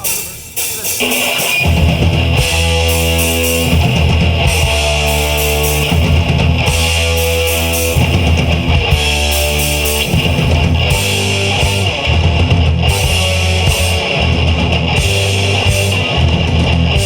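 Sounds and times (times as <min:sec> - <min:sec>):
rock band playing heavy riff: 0:00.0 - 0:17.0.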